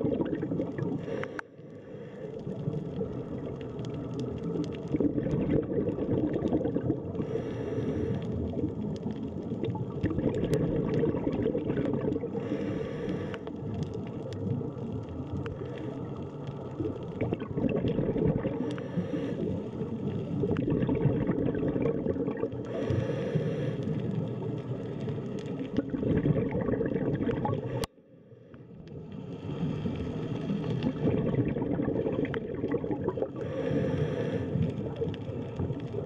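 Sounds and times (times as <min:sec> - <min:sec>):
scuba exhaust bubbles: 0:00.0 - 0:27.9, 0:28.9 - 0:36.0
low underwater rumble: 0:00.0 - 0:36.0.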